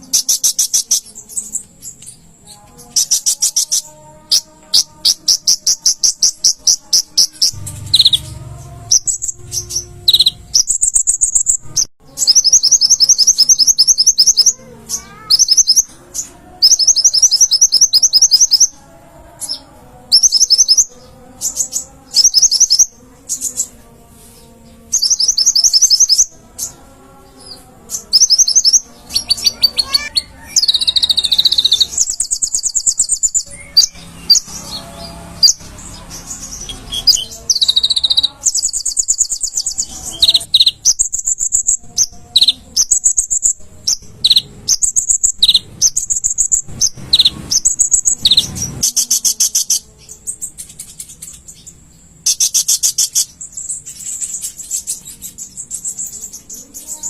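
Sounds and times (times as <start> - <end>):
bird singing high-pitched trills: 0.0 - 24.0, 24.8 - 57.0.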